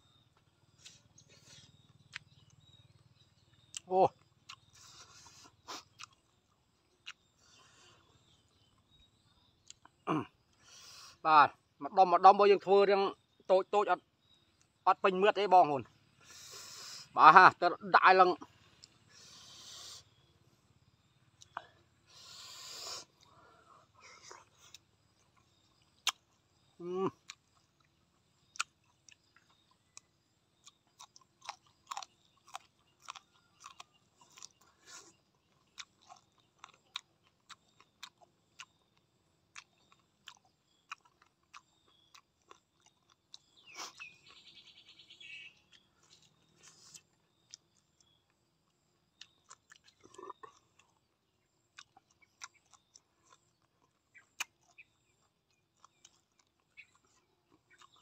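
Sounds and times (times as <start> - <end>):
wet chewing clicks and smacks: 0.3 - 10.6, 18.4 - 58.0.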